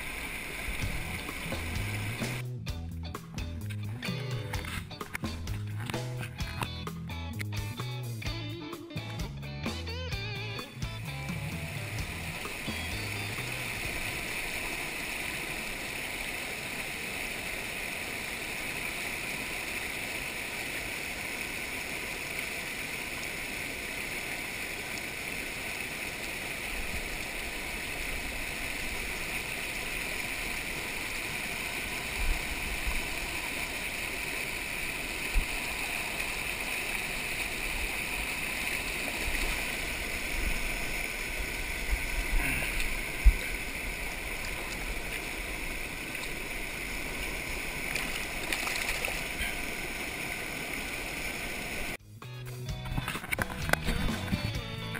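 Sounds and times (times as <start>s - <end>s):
creek water rushing: 0.0s - 2.5s, 8.0s - 52.0s.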